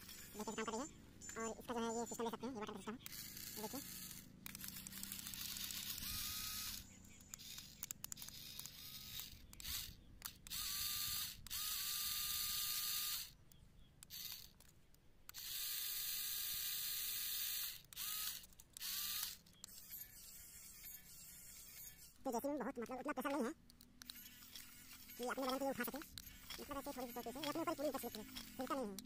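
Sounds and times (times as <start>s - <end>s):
toy electric motors whirring: 0.0s - 29.0s.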